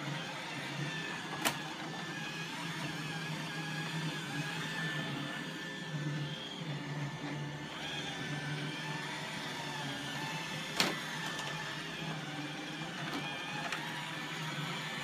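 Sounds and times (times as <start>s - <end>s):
robot vacuum running on carpet: 0.0s - 15.0s.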